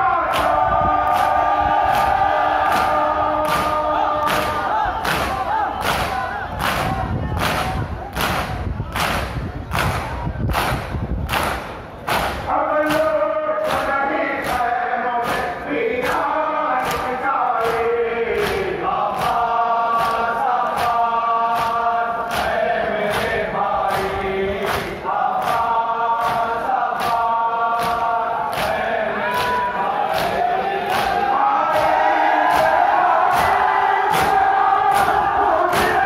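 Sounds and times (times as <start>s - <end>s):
voices chanting in unison: 0.0s - 9.2s, 12.2s - 36.0s
crowd beating chests rhythmically: 0.0s - 36.0s.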